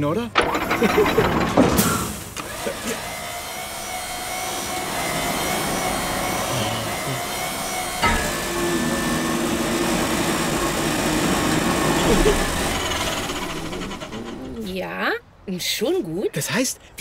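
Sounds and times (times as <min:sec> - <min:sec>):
excavator engine and hydraulics whir: 0:00.0 - 0:15.1.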